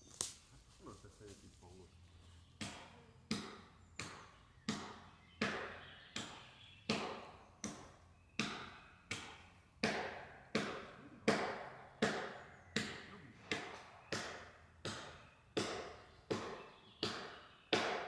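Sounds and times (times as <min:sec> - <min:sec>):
sharp knocks: 0:02.6 - 0:18.0.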